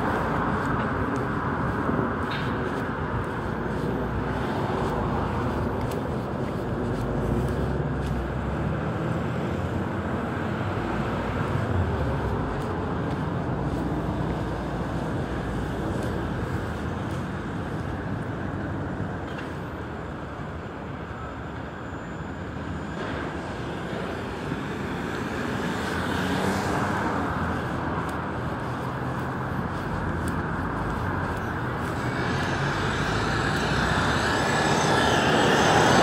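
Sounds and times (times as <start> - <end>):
cars going by: 0.0 - 36.0.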